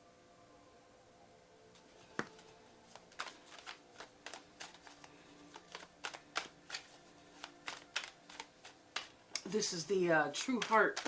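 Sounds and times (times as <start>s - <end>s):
cards being shuffled: 2.0s - 11.0s.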